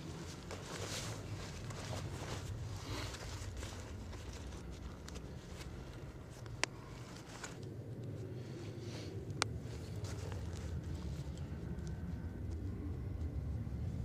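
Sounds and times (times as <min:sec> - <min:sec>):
nylon rustling and crumpling: 0:00.0 - 0:07.8, 0:09.0 - 0:12.5
low steady rumble: 0:00.0 - 0:14.0.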